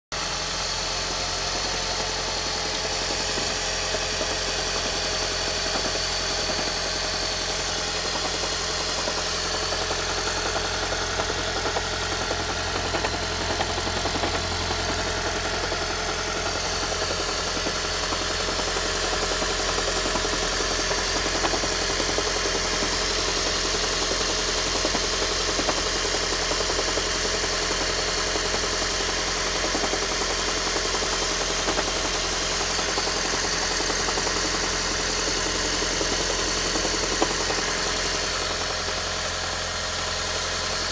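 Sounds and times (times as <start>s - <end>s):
car mechanical running sound: 0.1s - 40.9s.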